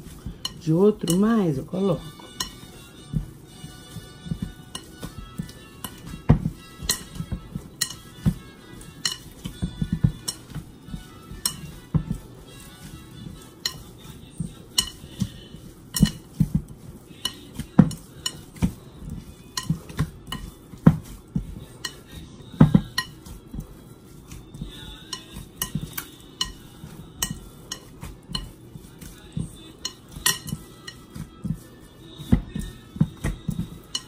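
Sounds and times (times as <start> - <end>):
dough squishing: 0.0 - 34.0.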